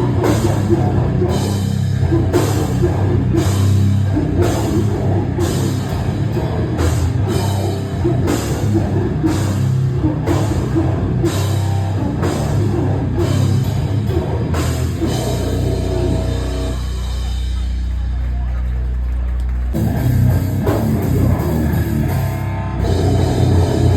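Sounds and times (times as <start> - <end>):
punk band playing live: 0.0 - 23.9.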